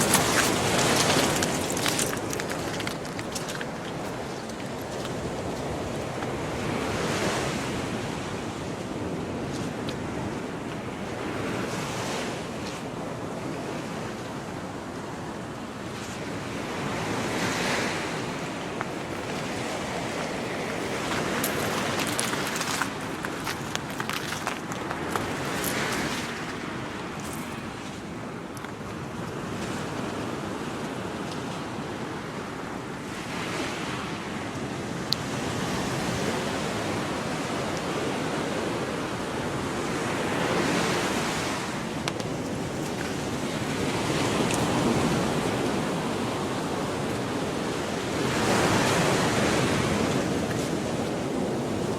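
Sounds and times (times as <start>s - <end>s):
surf washing onto beach: 0.0s - 51.9s.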